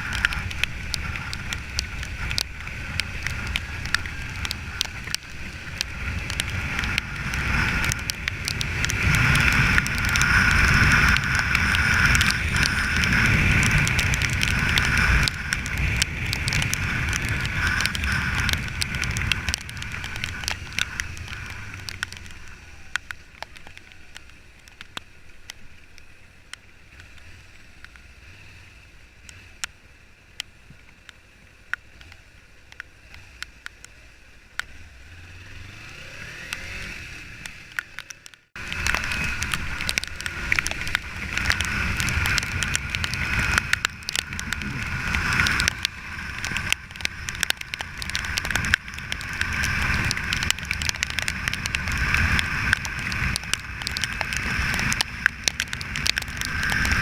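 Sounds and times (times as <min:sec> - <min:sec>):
rain and wind on microphone: 0:00.0 - 0:57.0
raindrops ticking and crackling: 0:00.0 - 0:57.0.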